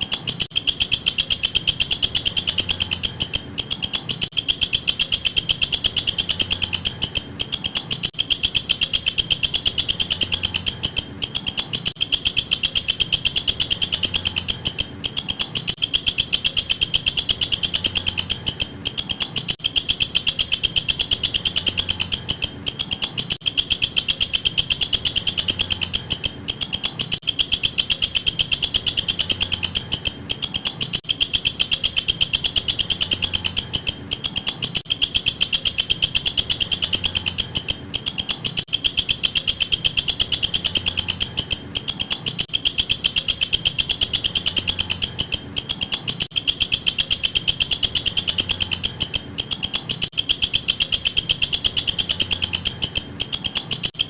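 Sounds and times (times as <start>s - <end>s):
katydid pulsed buzz: 0.0s - 54.0s.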